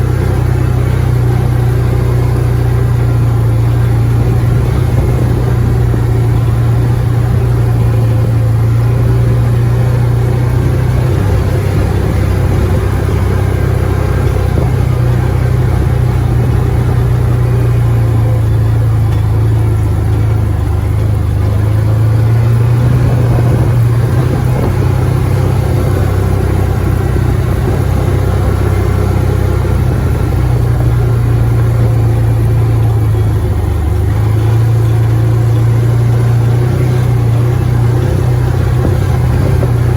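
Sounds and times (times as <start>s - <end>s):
utility vehicle engine running: 0.0s - 39.9s.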